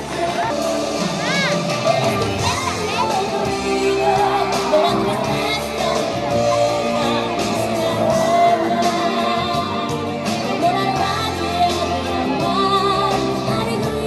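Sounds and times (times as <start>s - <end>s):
music with singing voice: 0.0s - 14.0s.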